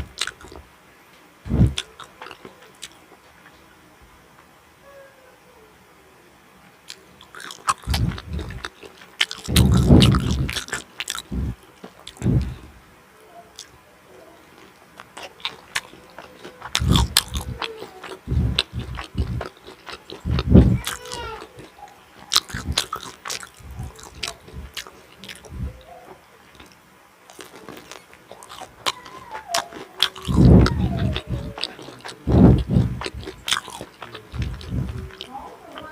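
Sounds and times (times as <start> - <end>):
biting and chewing food: 0.0 - 0.7, 1.5 - 3.0, 6.8 - 12.7, 14.5 - 25.9, 26.5 - 35.9
sticky crackly mouth noises: 0.0 - 0.7, 1.5 - 3.3, 6.8 - 12.8, 14.4 - 35.9.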